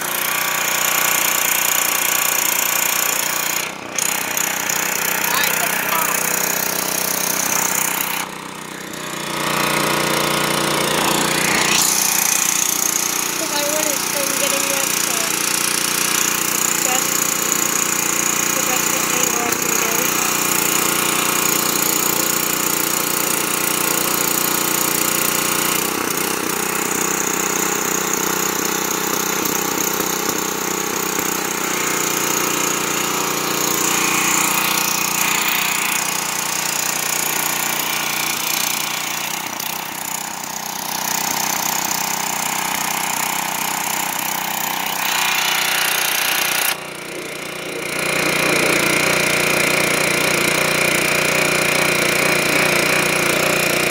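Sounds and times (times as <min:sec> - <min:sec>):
high-pressure water jet hissing: 0:00.0 - 0:53.9
pressure washer engine running: 0:00.0 - 0:53.9.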